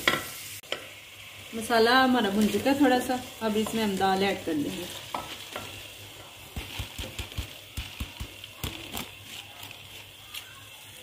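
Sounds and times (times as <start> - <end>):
faint sizzle: 0.0 - 11.0
lentils pattering into pot: 0.0 - 11.0.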